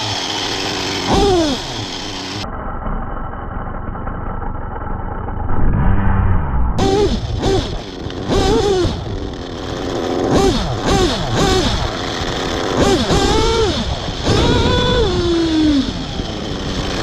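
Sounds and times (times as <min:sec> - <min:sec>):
rc car engine revving: 0:00.0 - 0:05.6, 0:06.7 - 0:17.0.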